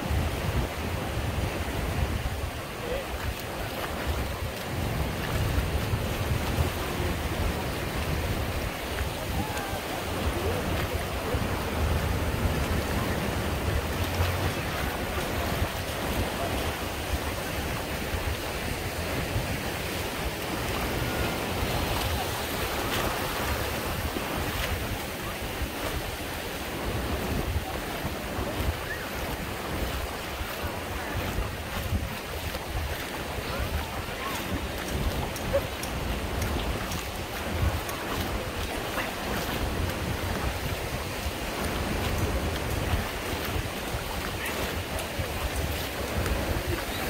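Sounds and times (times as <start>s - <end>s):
small waves washing on sand: 0.0s - 47.0s
wind buffeting microphone: 0.0s - 47.0s.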